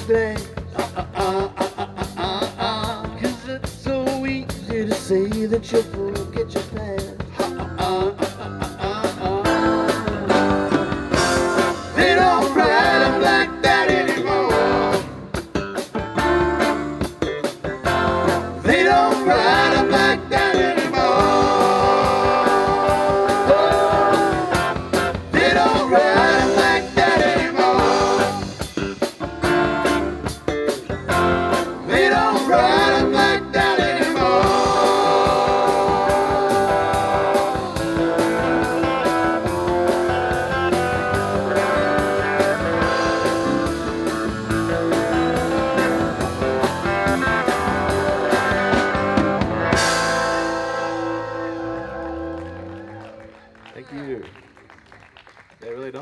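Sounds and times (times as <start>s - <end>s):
steady drum beat: 0.0s - 51.2s
electric bass: 0.0s - 53.6s
bending lead guitar melody: 7.2s - 53.5s.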